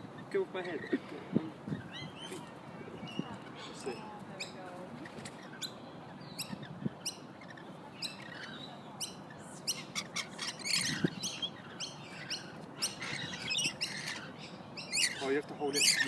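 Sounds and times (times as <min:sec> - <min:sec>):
lorikeets chattering: 0:00.0 - 0:16.0.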